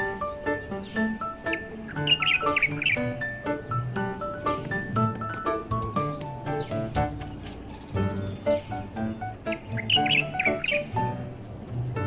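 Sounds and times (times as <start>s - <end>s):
high bird-like chirps: 0.0s - 5.4s, 6.0s - 11.2s.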